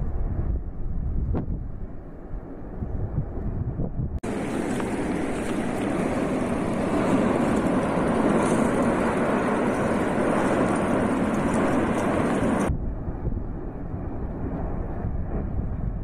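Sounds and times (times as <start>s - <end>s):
volcano erupting rumble: 0.0s - 16.0s.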